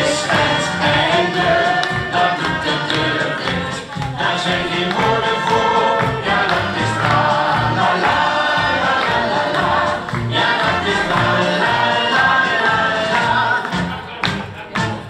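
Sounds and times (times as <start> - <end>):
group of voices singing: 0.0 - 14.5
musical accompaniment: 0.0 - 15.0.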